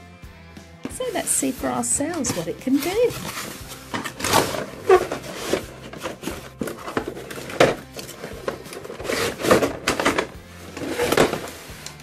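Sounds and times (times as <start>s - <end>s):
cardboard box rustling and scraping: 0.8s - 12.0s.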